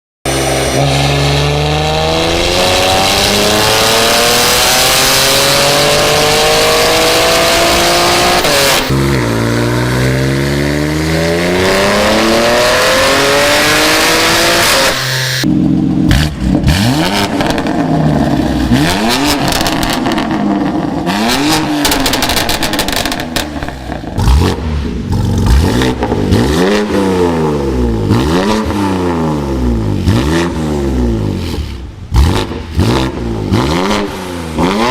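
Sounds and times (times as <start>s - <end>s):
car engine accelerating: 0.3s - 34.9s
engine revving: 0.3s - 34.9s.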